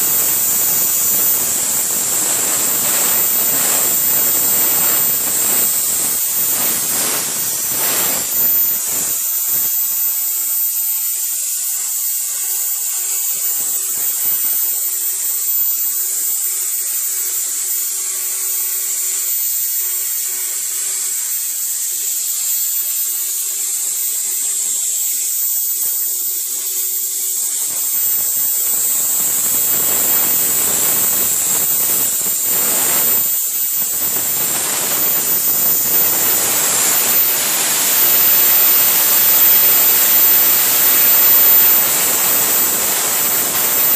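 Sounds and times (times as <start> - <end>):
faint steady hum: 0.0 - 43.9
plasma cutter hissing: 0.0 - 43.9.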